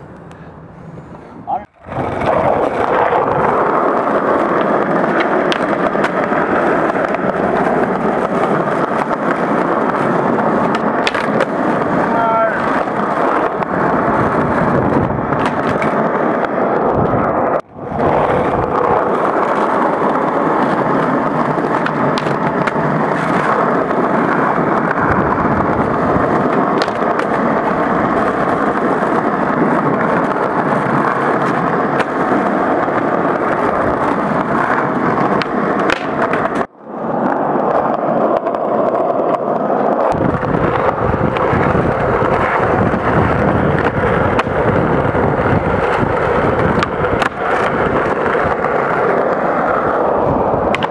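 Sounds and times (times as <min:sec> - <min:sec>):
skateboard wheels rolling on concrete: 0:00.0 - 0:50.9
skateboard clicks: 0:01.6 - 0:50.9.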